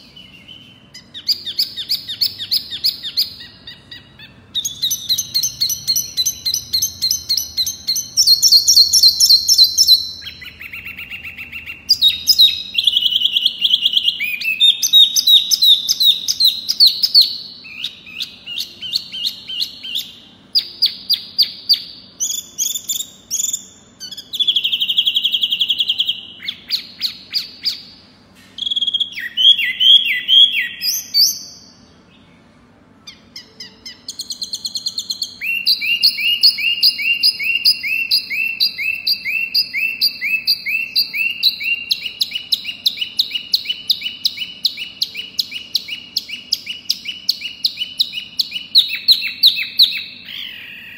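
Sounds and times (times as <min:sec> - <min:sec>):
songbird chirping: 0:00.0 - 0:50.9.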